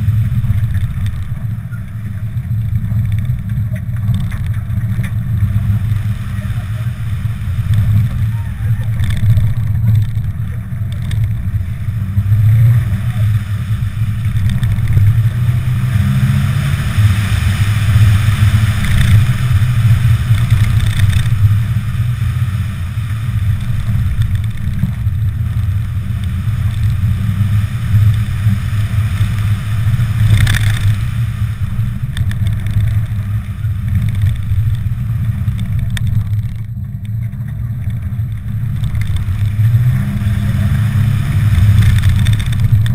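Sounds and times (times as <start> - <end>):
car engine and road drone: 0.0 - 42.9.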